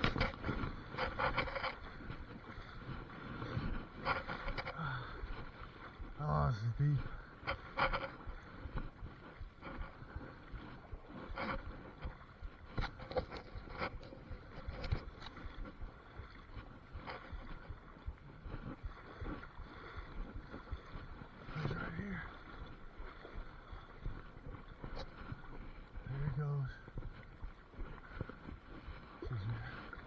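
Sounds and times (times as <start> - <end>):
river water splashing around legs: 0.0 - 30.0.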